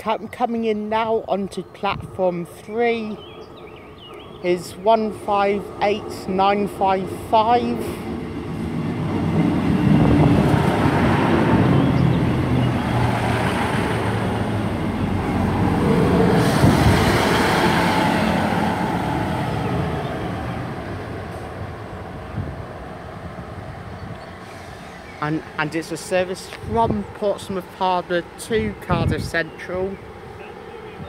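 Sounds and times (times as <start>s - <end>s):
diesel train rumbling: 0.0s - 31.0s.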